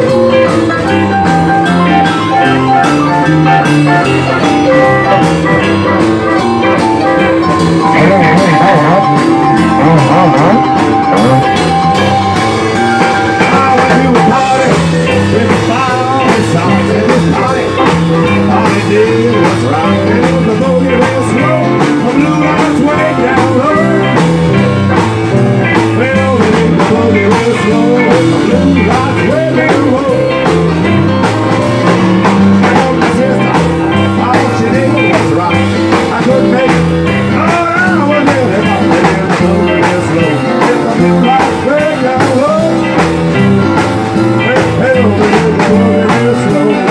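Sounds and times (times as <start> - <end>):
band playing rhythm and blues: 0.0 - 46.9
rolling bass line: 0.0 - 46.9.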